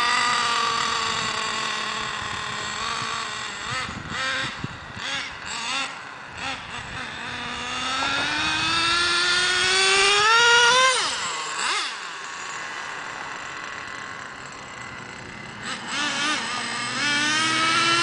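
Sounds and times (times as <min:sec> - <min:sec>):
nitro engine revving: 0:00.0 - 0:18.0.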